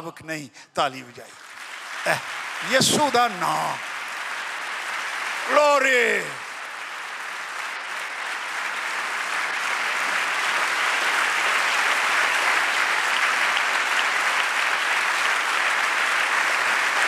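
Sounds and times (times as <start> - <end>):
crowd clapping: 0.8 - 17.0.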